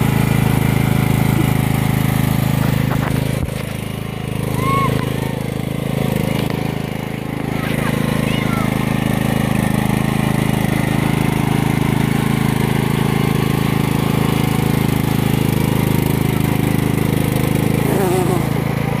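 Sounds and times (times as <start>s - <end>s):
tracked wheelchair motor droning: 0.0s - 19.0s.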